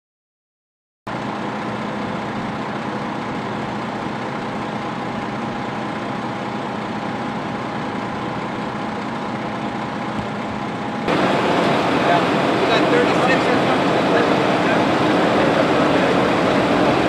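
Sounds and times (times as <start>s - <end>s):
fire engines idling: 1.1s - 17.0s.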